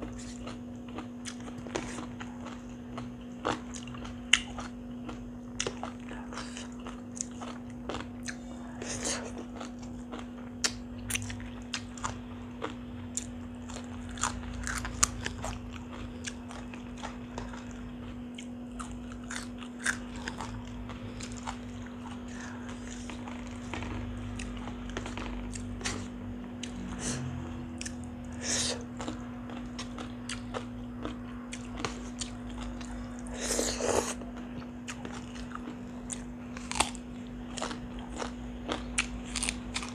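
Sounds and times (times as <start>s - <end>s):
close chewing with crunching: 0.0s - 39.9s
low electrical hum: 0.0s - 39.9s.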